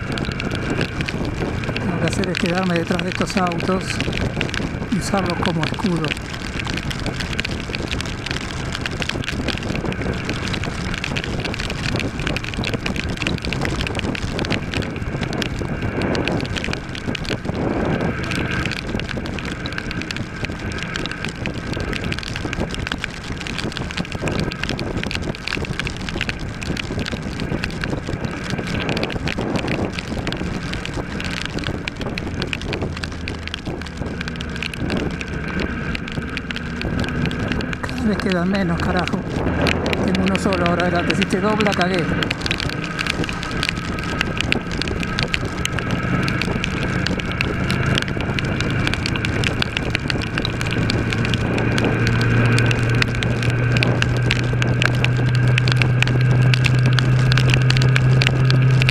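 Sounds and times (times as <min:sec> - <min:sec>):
torrential rain: 0:00.0 - 0:58.9
wind rush on microphone: 0:00.0 - 0:58.9.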